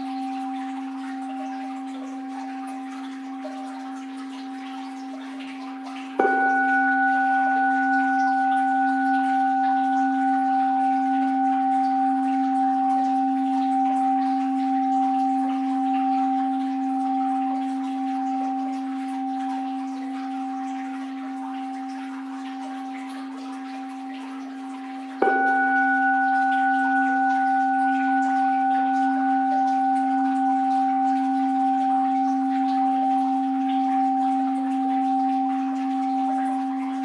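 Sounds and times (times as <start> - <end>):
bowl bell ringing: 0.0 - 37.0.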